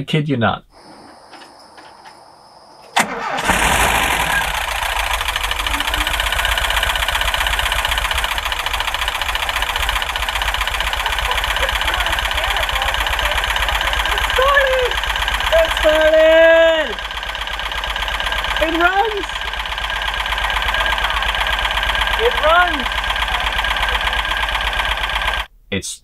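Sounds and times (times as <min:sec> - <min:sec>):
engine starting and idling: 0:02.9 - 0:25.5
sharp starter click: 0:02.9 - 0:25.5.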